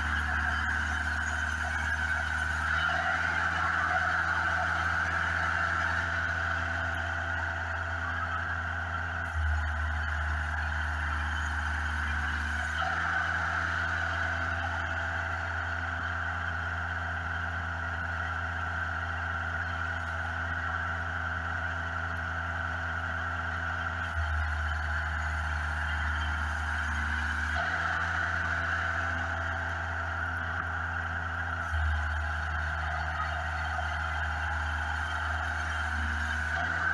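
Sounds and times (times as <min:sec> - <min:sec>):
sawmill engine humming: 0:00.0 - 0:36.9.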